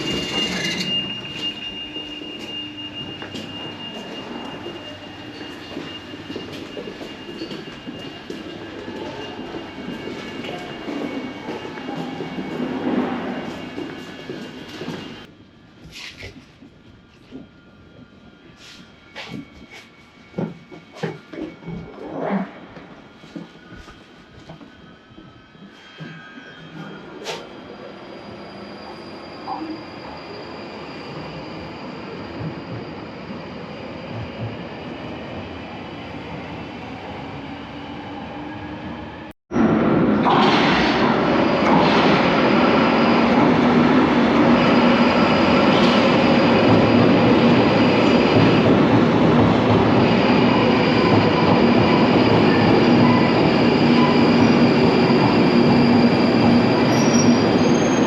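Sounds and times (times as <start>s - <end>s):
train rumbling with whining tones: 0.0s - 58.0s
underground station ambience: 0.0s - 58.0s.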